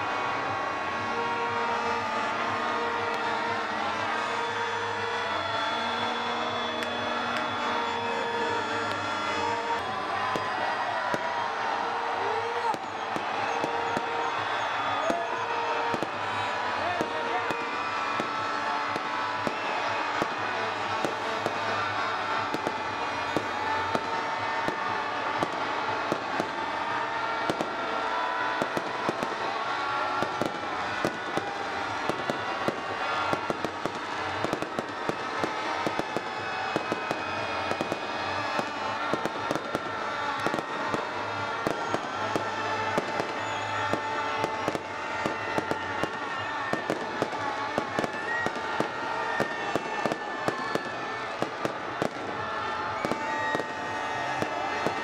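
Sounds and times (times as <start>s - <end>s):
continuous din with held tones: 0.0s - 55.0s
fireworks bangs and crackles: 0.0s - 55.0s.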